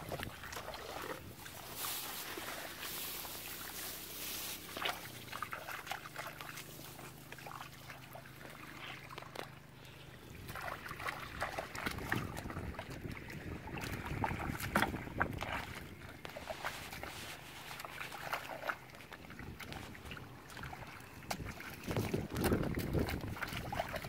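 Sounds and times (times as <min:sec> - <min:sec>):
wet steps through mud: 0:00.0 - 0:09.6, 0:13.8 - 0:24.0
splashing in muddy water: 0:00.0 - 0:24.0.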